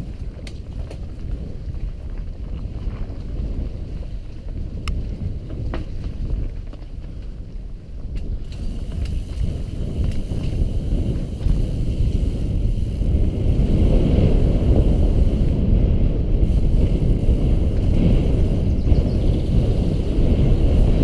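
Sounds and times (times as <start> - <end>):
bike tyres rumbling on dirt trail: 0.0 - 21.0
wind buffeting microphone: 0.0 - 21.0.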